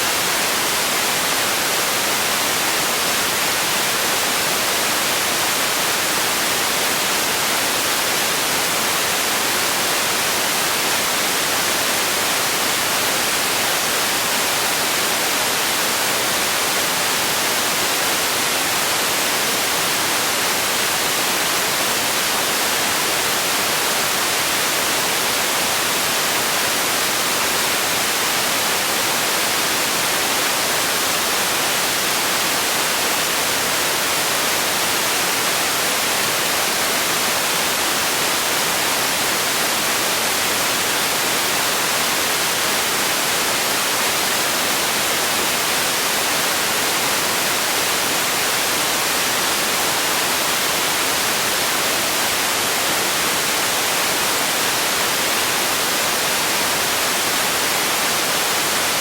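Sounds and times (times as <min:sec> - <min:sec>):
steady white noise hiss: 0:00.0 - 0:59.0.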